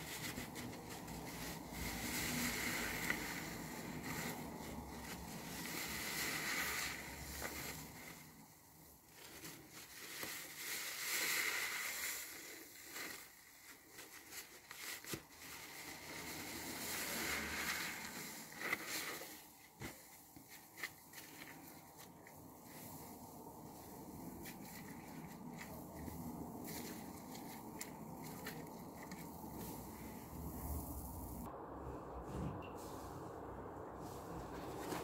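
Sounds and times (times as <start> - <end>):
foam crackling: 0.0 - 31.5
wet sponge squelching: 0.0 - 31.5.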